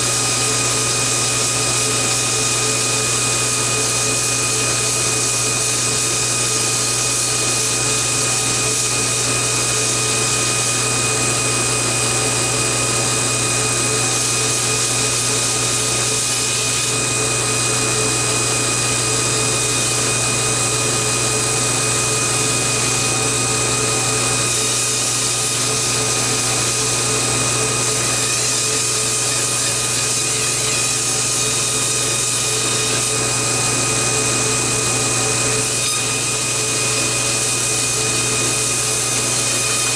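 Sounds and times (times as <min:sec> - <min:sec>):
belt grinder motor whine: 0:00.0 - 0:39.9.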